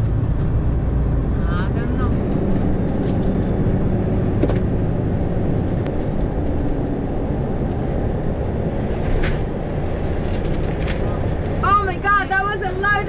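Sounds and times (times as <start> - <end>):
lorry diesel engine hum: 0.0 - 13.0.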